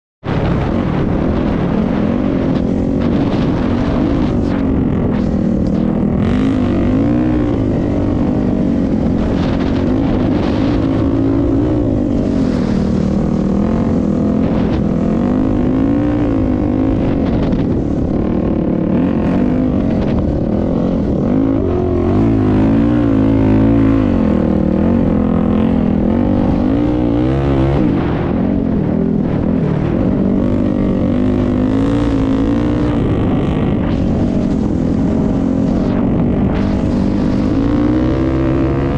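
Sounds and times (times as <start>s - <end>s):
vehicle engine running: 0.3s - 38.9s.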